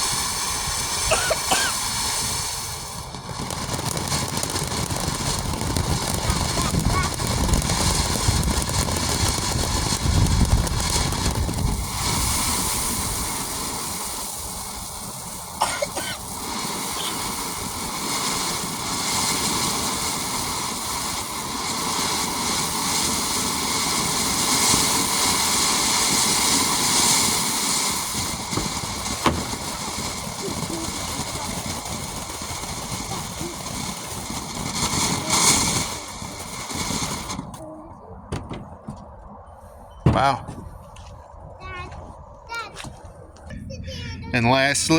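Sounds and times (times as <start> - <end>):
firework fountain hissing: 0.0 - 40.9, 43.5 - 44.9
sharp crackles: 0.0 - 44.0.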